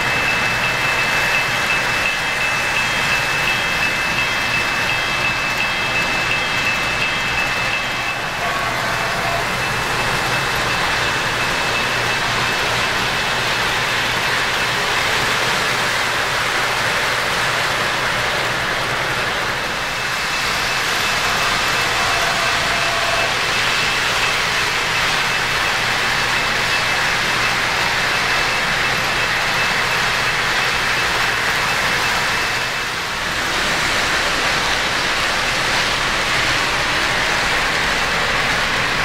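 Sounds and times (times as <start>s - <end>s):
model train rolling rumble: 0.0s - 39.0s.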